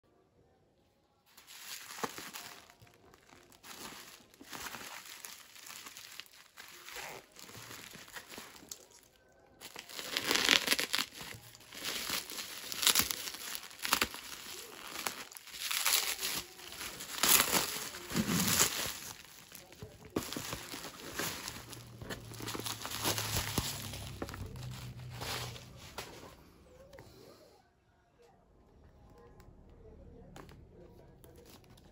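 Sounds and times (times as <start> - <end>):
bubble wrap crinkling and crackling: 1.3 - 26.9.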